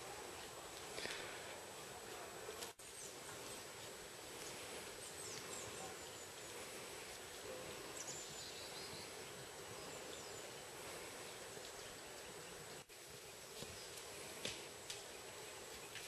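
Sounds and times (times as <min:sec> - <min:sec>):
forest ambience hiss: 0:00.0 - 0:16.0.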